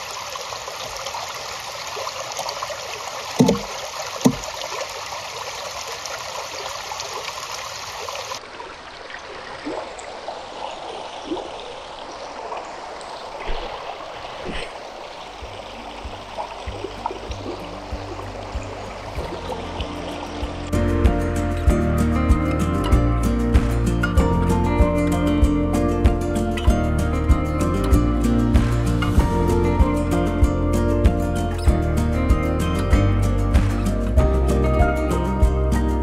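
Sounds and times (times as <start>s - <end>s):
stream trickling over rocks: 0.0s - 36.0s.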